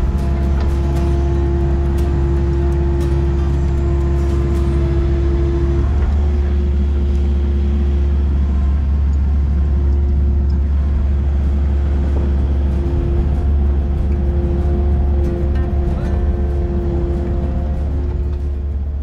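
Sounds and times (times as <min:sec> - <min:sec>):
excavator diesel engine drone: 0:00.0 - 0:19.0
higher steady hum: 0:00.0 - 0:19.0.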